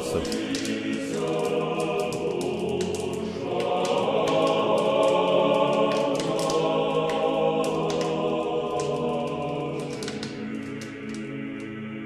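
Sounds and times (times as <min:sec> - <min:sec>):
choir singing held chords: 0:00.0 - 0:12.0
crackling clicks: 0:00.0 - 0:12.0.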